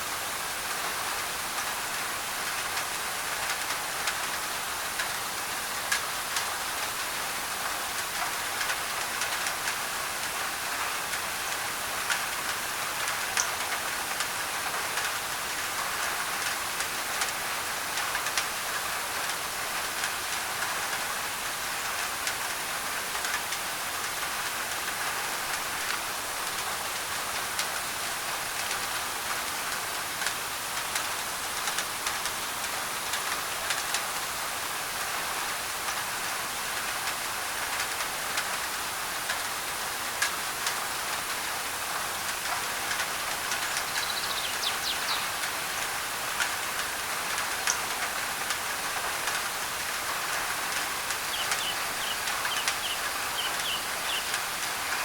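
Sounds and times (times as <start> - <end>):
rain on a tin roof: 0.0 - 55.0
white noise: 0.0 - 55.0.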